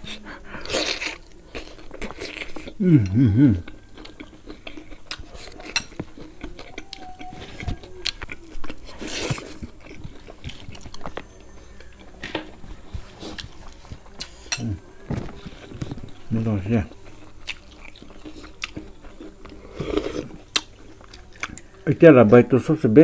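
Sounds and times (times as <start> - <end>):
close-up chewing: 0.0 - 21.9.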